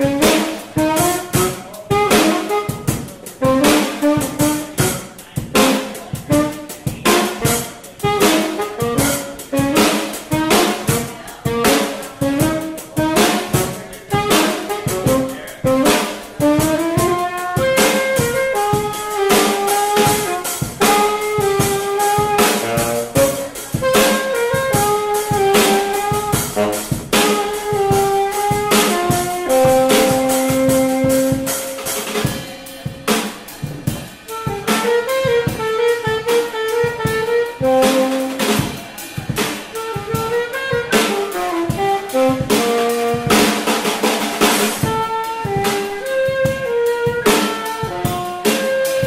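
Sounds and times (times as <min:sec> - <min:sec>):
drum kit: 0:00.0 - 0:49.0
saxophone melody: 0:00.0 - 0:49.0.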